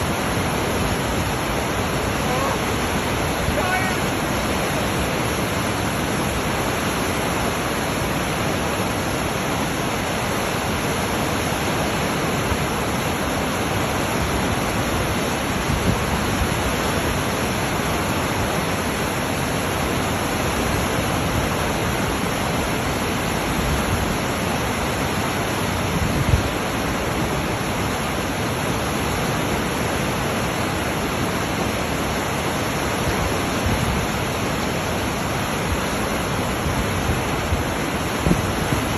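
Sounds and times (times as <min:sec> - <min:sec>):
whitewater roaring: 0:00.0 - 0:38.9.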